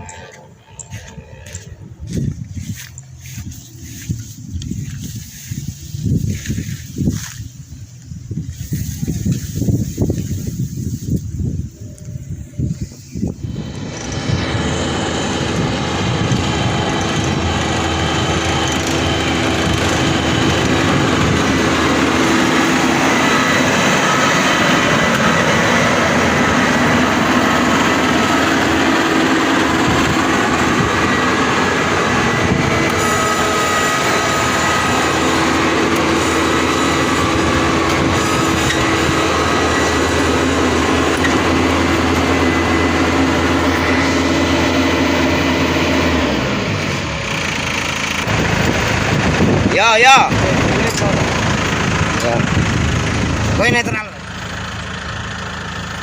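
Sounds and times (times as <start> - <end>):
diesel engines rumbling: 0.0 - 56.0
high steady whining tones: 0.0 - 56.0.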